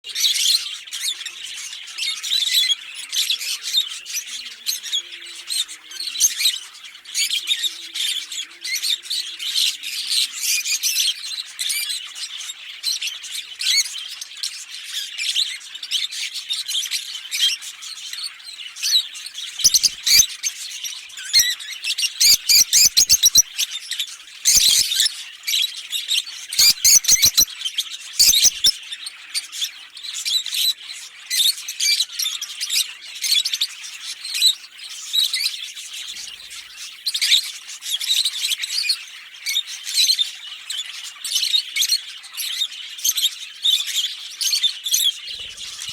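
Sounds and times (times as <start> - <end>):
lovebirds chirping and chattering: 0.0 - 45.9.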